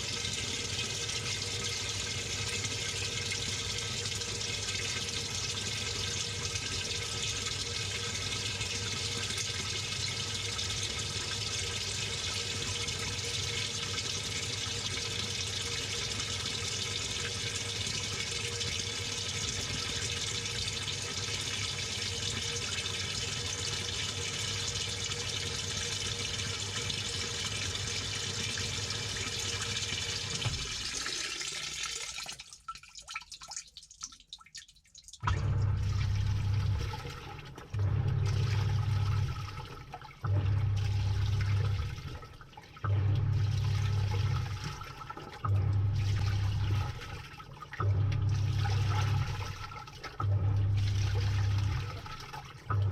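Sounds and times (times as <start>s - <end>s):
water running into washer drum: 0.0s - 52.9s.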